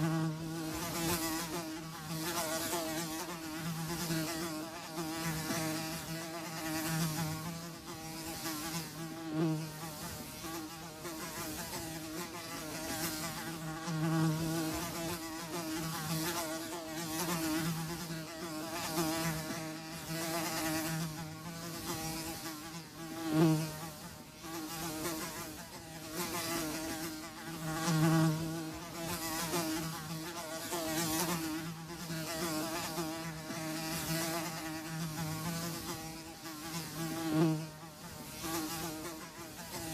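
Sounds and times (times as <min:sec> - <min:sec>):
flies buzzing: 0:00.0 - 0:39.9.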